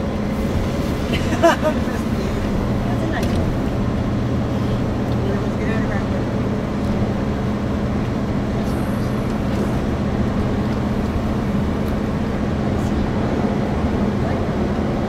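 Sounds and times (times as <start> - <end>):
truck engine drone: 0.0 - 15.0.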